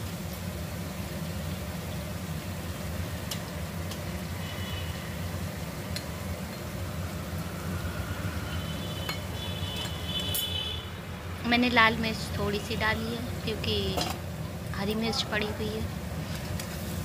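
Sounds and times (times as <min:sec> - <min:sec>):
onions frying in oil: 0:00.0 - 0:17.0.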